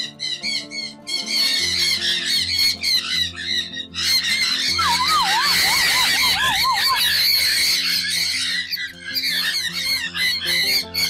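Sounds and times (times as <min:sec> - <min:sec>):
background music: 0:00.0 - 0:11.0
parrots squawking: 0:00.0 - 0:11.0.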